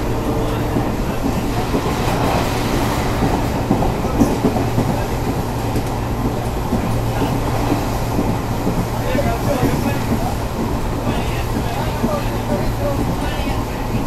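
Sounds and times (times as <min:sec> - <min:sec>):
clickety-clack of rail joints: 0:00.0 - 0:14.0
train wheels rumbling on rails: 0:00.0 - 0:14.0.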